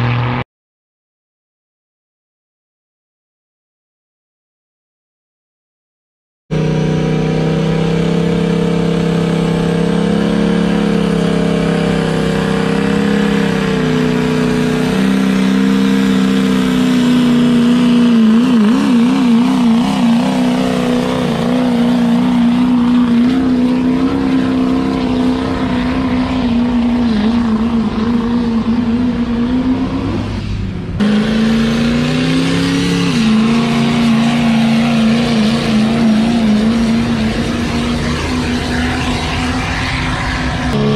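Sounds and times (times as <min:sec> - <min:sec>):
truck engines at high revs: 0:00.0 - 0:00.4, 0:06.5 - 0:40.9.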